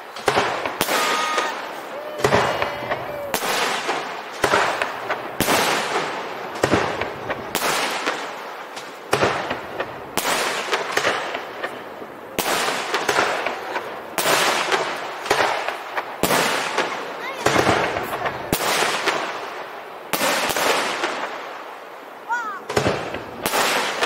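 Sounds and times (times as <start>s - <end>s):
fireworks shells bursting: 0.0s - 19.5s.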